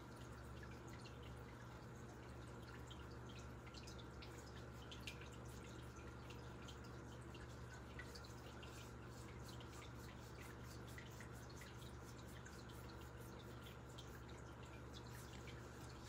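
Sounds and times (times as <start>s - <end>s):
low steady hum: 0.0s - 16.0s
tap water trickling into sink: 0.0s - 16.0s
water drips and patters: 0.0s - 16.0s.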